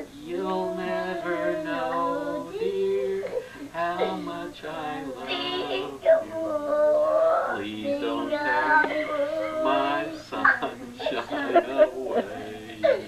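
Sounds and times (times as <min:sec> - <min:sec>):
person singing slow tune: 0:00.0 - 0:13.0.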